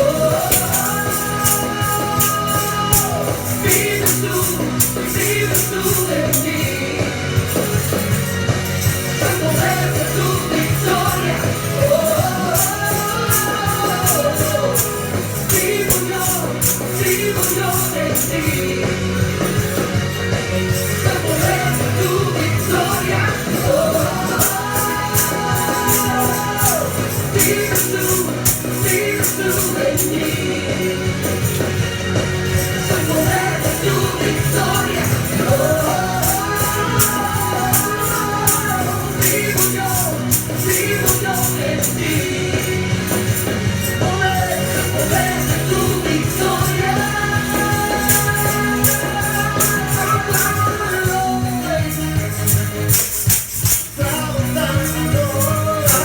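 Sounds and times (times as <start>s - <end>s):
tambourine: 0.0s - 56.0s
worship song with band: 0.0s - 56.0s.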